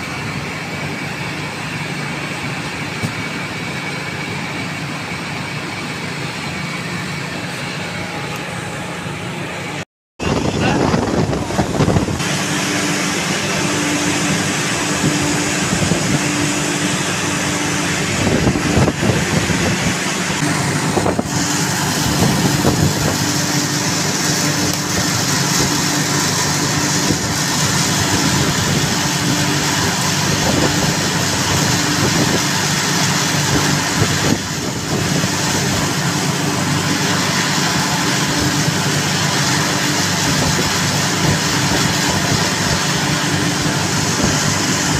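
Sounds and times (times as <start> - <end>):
machinery droning: 0.0 - 44.9.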